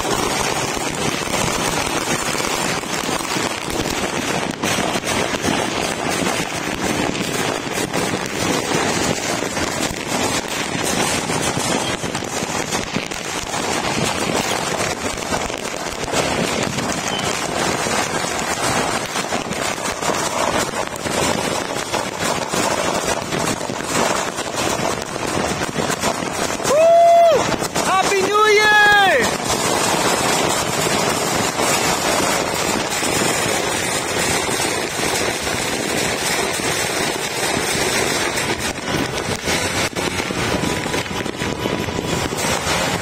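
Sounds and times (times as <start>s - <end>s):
fireworks crackling and popping: 0.0s - 43.0s.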